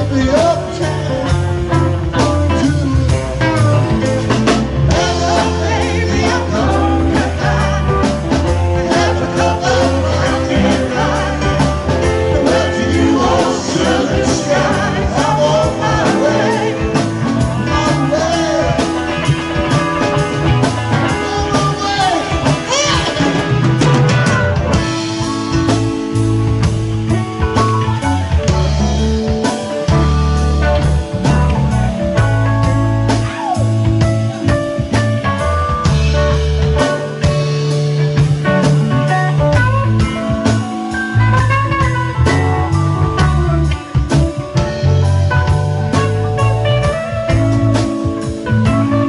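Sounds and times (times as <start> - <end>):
drum kit: 0.0 - 49.0
electric bass: 0.0 - 49.0
electric guitars: 0.0 - 49.0
keyboard: 0.0 - 49.0.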